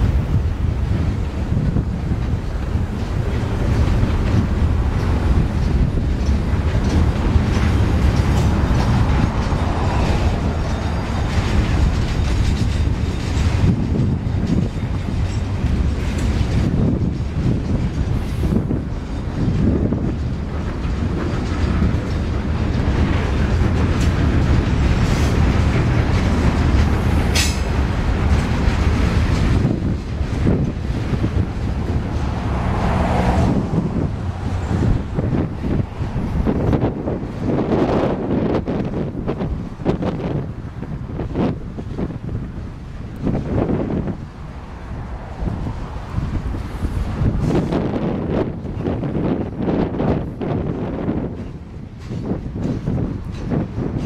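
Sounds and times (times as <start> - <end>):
freight train rumbling past: 0.0 - 54.0
wheels clicking on rails: 0.0 - 54.0.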